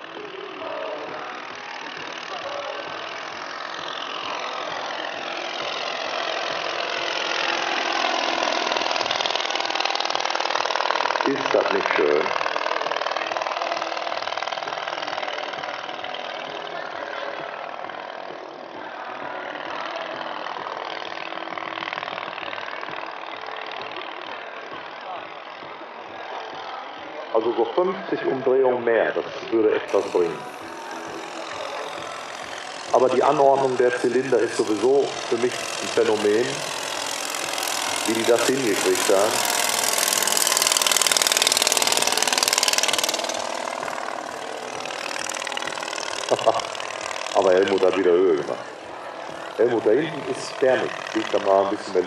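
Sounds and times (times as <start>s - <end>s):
model airplane engine running: 0.0s - 52.0s.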